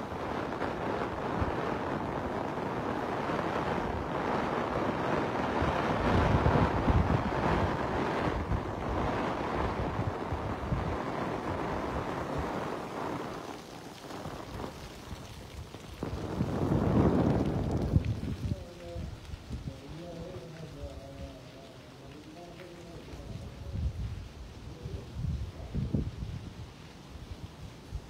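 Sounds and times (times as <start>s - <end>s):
heavy rain on paving: 0.0s - 28.0s
wind buffeting microphone: 0.0s - 28.0s.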